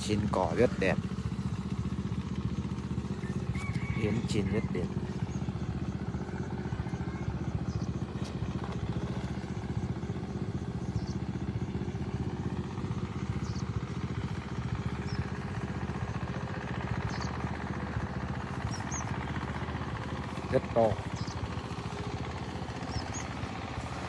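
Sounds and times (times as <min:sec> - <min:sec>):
small engine idling: 0:00.0 - 0:24.0.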